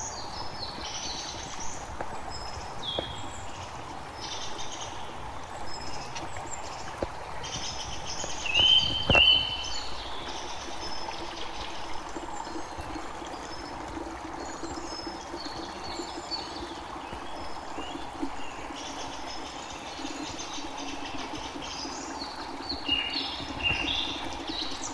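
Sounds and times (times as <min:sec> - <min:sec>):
birds chirping: 0:00.0 - 0:24.9
water trickling into bucket: 0:00.0 - 0:24.9.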